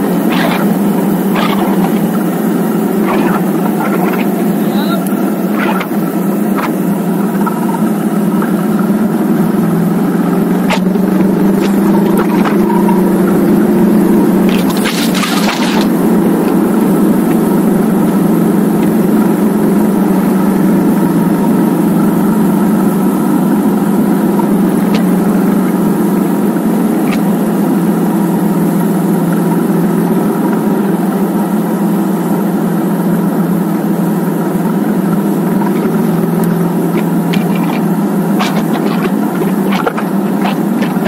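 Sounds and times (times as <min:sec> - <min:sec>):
motorcycle engine droning: 0:00.0 - 0:41.0.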